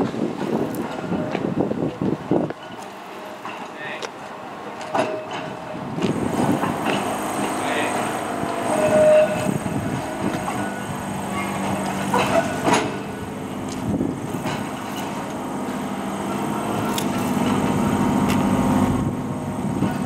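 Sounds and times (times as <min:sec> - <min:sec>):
tram electric hum: 0:00.0 - 0:20.0.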